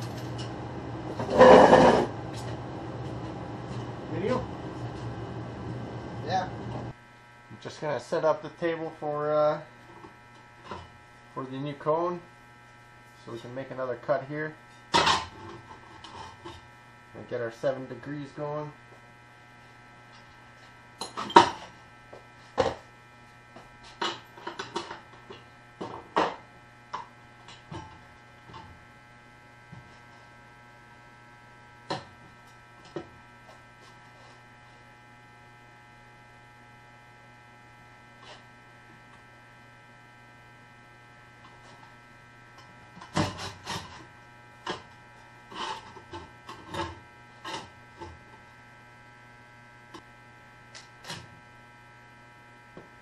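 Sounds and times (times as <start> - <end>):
steady electrical hum: 0.0 - 53.0.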